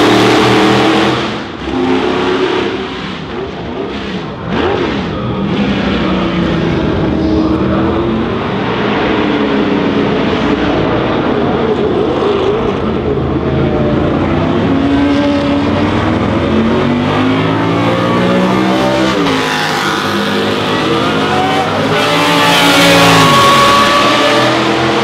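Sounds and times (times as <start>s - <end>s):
racing car engines passing: 0.0s - 25.0s.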